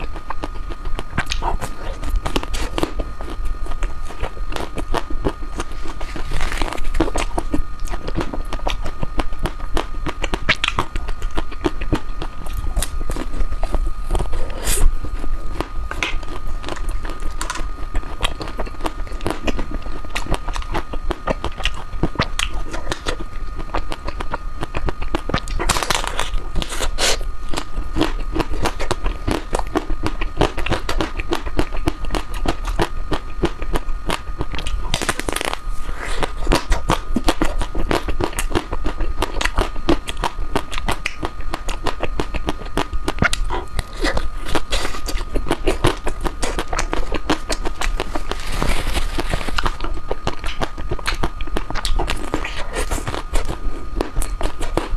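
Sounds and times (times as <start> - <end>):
faint high whine: 0.0 - 54.9
wet eating mouth sounds: 0.0 - 54.9.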